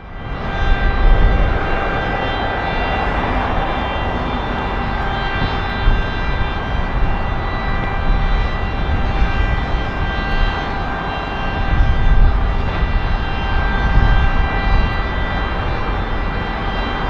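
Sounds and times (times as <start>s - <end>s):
jet engines roaring with whine: 0.0s - 17.0s.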